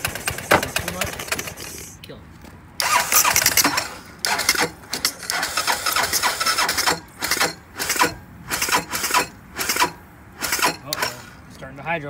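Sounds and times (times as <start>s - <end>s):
engine cranking on starter: 0.0s - 1.9s, 2.8s - 11.6s.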